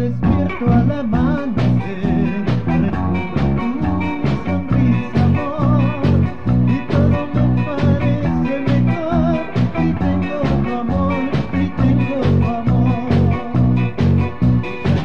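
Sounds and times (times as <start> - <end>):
band music with bass beat: 0.0 - 15.0.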